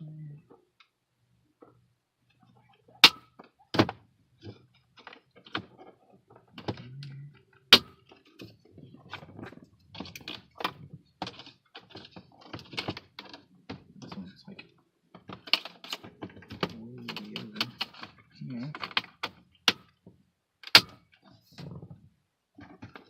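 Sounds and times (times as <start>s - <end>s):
plastic parts clicking and knocking: 1.6s - 23.0s.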